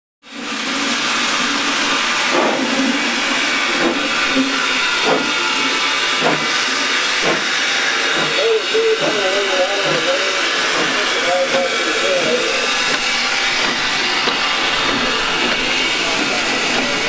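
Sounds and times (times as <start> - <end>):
steam hissing: 0.3 - 17.0.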